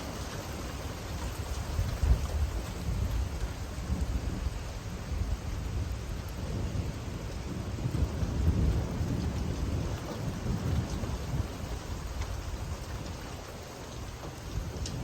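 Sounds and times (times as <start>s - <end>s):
low rumble of thunder: 0.0s - 15.0s
steady rain falling: 0.0s - 15.0s.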